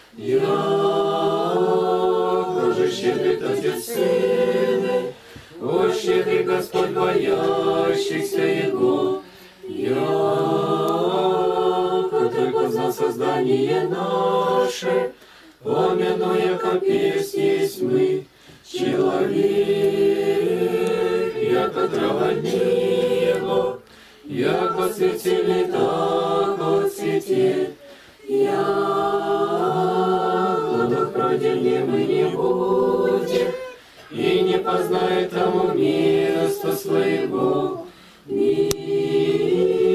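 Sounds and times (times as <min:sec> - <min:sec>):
choir chanting a cappella: 0:00.0 - 0:39.9.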